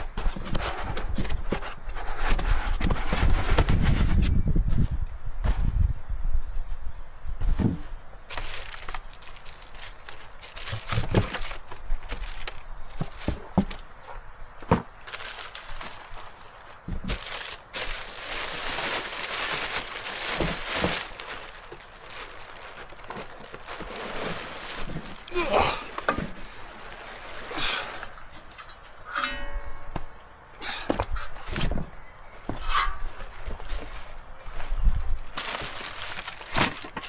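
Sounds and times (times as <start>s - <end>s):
crunching and rustling: 0.0s - 5.8s, 7.4s - 37.0s.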